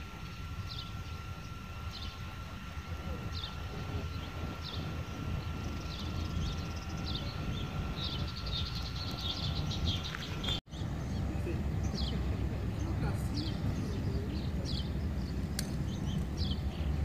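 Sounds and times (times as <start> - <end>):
birds chirping: 0.0 - 17.0
distant turboprop whine: 0.0 - 17.0
low steady rumble: 0.0 - 17.0.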